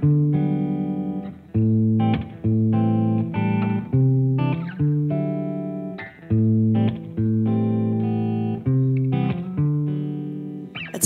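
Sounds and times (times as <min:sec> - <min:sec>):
plucked guitar strumming chords: 0:00.0 - 0:11.0.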